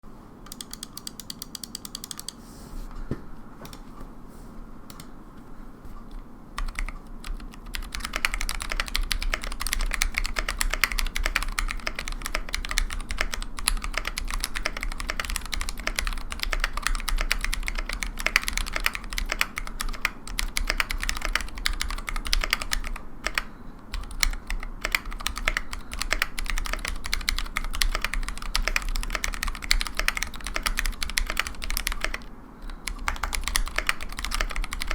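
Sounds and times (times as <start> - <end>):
typing on mechanical keyboard: 0.5 - 2.4, 6.6 - 34.9.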